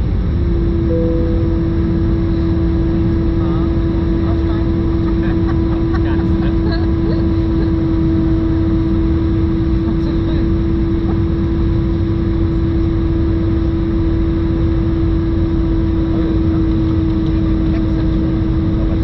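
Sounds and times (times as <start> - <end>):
aircraft cabin engine rumble: 0.0 - 19.0
steady engine howl: 0.0 - 19.0.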